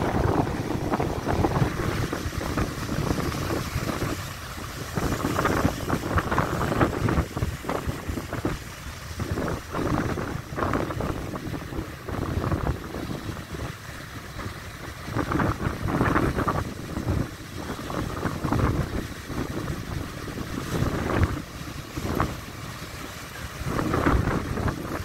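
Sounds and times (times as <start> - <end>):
rough sea surf churning: 0.0 - 25.0
water pouring off edges: 0.0 - 25.0
wind buffeting microphone: 0.0 - 25.0.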